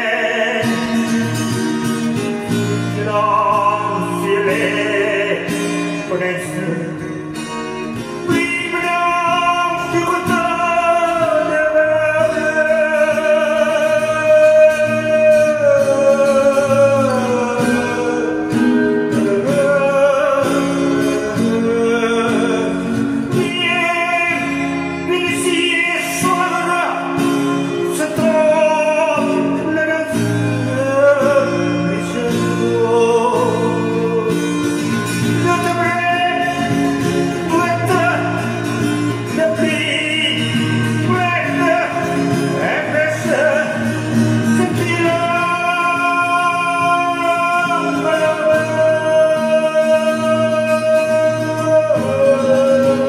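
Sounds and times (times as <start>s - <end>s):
acoustic guitar accompaniment: 0.0s - 53.0s
person singing slow song: 0.0s - 53.0s.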